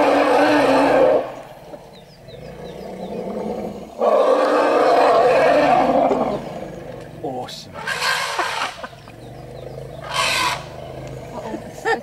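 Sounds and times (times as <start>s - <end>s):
elephants roaring: 0.0s - 12.0s.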